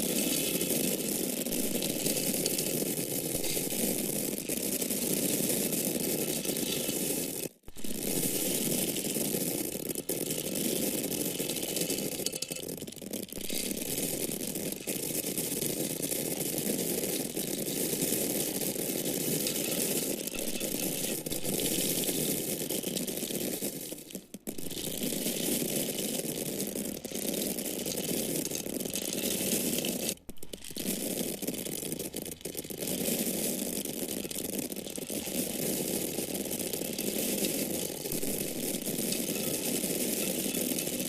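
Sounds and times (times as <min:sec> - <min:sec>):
dry corn kernels pouring: 0:00.0 - 0:41.0.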